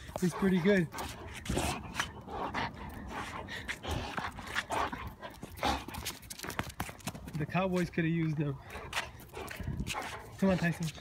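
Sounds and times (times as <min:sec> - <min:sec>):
dog panting: 0:00.0 - 0:07.0, 0:08.2 - 0:11.0.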